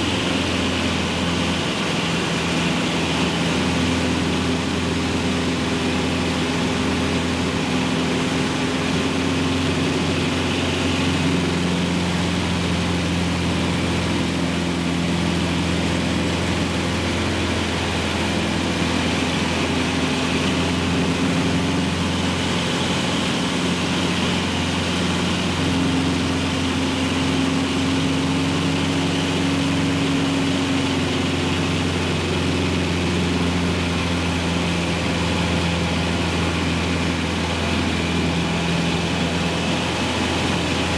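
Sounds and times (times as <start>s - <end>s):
airplane engine droning: 0.0s - 40.9s.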